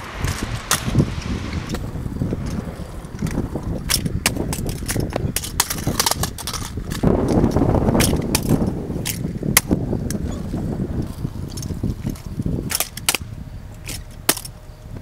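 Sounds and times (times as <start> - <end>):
kick scooter clattering on pavement: 0.0 - 14.7
scooter wheels rolling rumble: 0.0 - 15.0.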